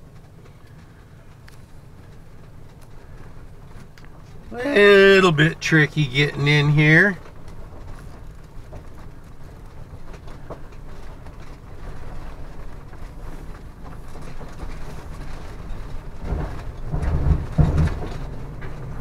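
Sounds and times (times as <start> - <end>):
road rumble with rattling: 0.0 - 19.0.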